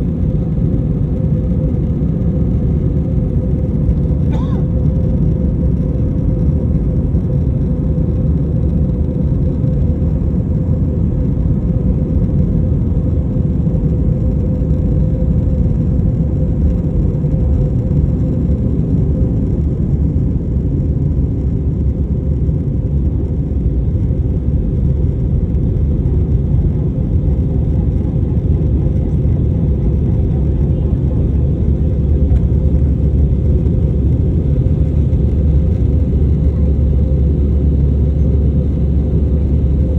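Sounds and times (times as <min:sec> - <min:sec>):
jet airliner rumble during takeoff: 0:00.0 - 0:39.9
steady hum: 0:00.0 - 0:39.9.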